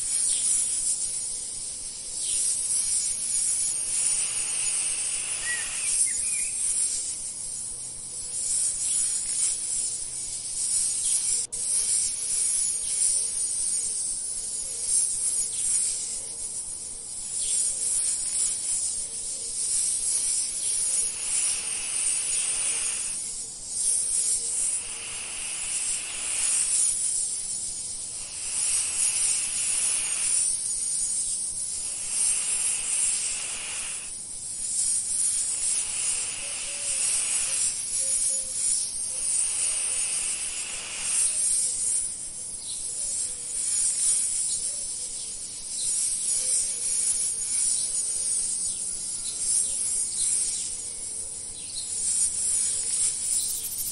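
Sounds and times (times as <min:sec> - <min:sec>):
high buzzing insect trill: 0:00.0 - 0:53.9
lower insect call: 0:00.0 - 0:53.9.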